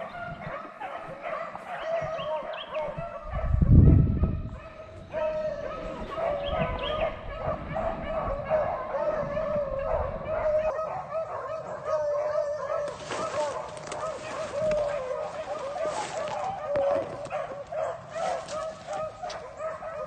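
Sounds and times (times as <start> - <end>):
beagles baying: 0.0 - 20.0.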